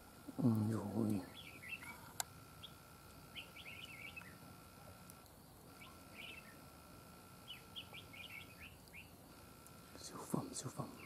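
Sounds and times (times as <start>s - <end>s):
birds chirping: 0.3s - 11.0s.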